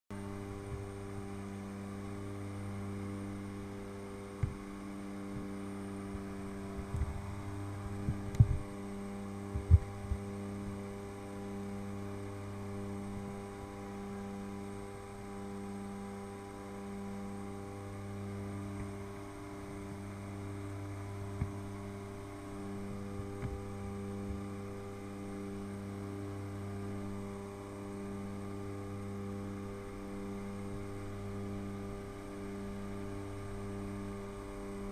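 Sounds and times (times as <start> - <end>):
aircraft engines droning: 0.2 - 34.9.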